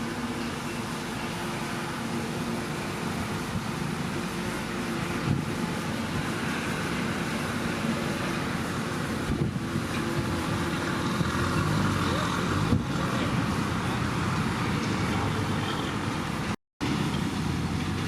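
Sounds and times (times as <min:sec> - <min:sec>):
diesel earthmoving machinery running: 0:00.0 - 0:18.0.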